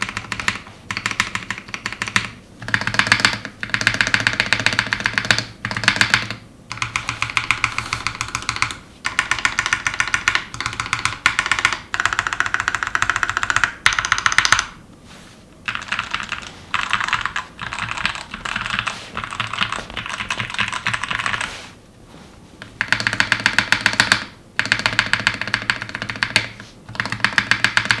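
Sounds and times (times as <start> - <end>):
fast mechanical keyboard typing: 0.0 - 14.8, 15.6 - 21.5, 22.6 - 28.0.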